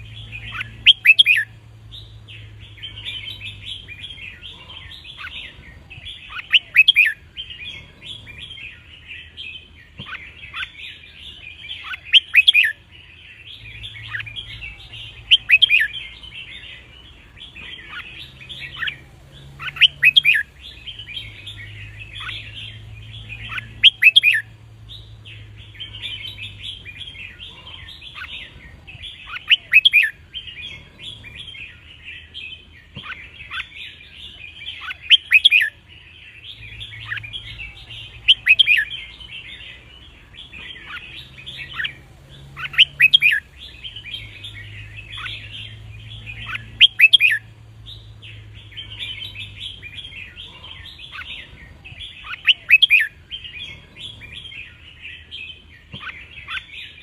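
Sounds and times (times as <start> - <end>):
bright bird song phrases: 0.0 - 57.0
soft bird chattering: 0.0 - 57.0.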